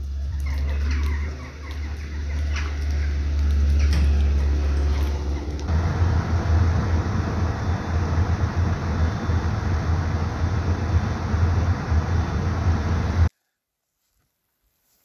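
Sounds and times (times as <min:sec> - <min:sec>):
outdoor rumble and hiss: 0:00.0 - 0:13.3.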